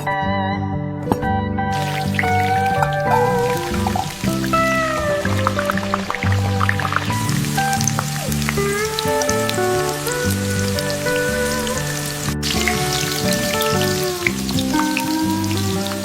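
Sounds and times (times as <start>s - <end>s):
gentle melody over sustained tones: 1.8s - 16.0s.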